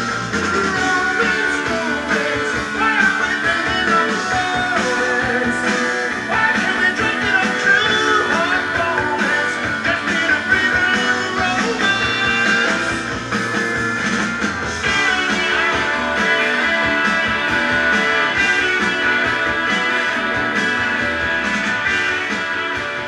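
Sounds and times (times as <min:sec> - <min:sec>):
guitar music from vinyl record: 0:00.0 - 0:23.0.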